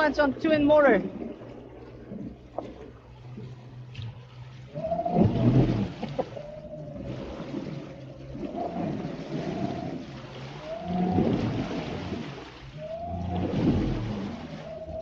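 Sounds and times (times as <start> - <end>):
water rushing along hull: 0.0 - 15.0.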